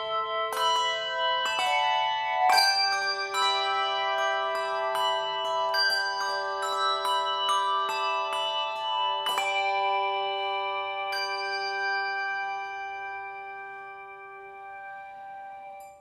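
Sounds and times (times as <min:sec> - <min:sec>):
handbell choir ringing chords: 0:00.0 - 0:16.0.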